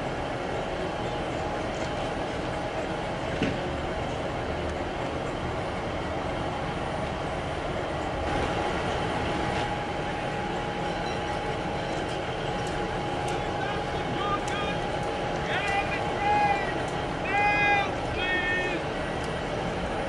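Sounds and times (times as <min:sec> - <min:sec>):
train engine droning: 0:00.0 - 0:20.0.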